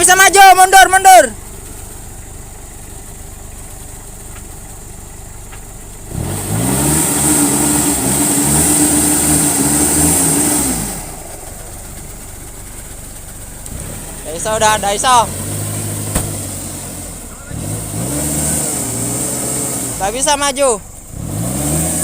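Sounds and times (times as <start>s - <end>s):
engine idling and revving: 0.0s - 22.0s.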